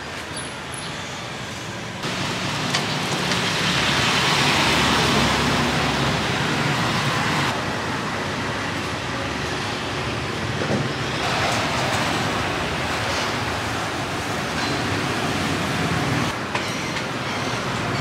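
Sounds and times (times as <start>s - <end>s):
street traffic hiss and rumble: 0.0s - 18.0s.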